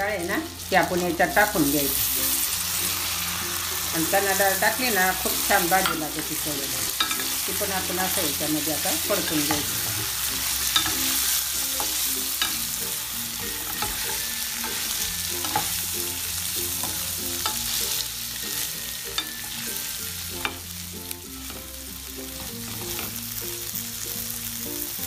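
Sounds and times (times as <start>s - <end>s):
vegetables sizzling in oil: 0.0s - 25.0s.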